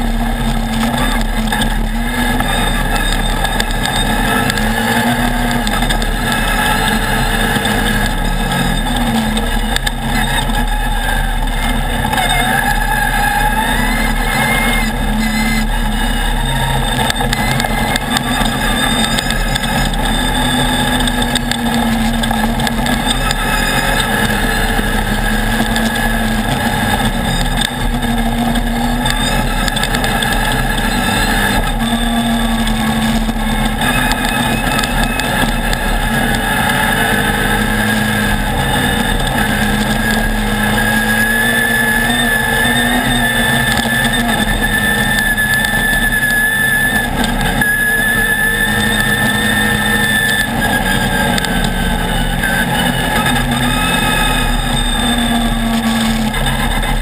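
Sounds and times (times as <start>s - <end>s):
buggy engine running: 0.0s - 57.0s.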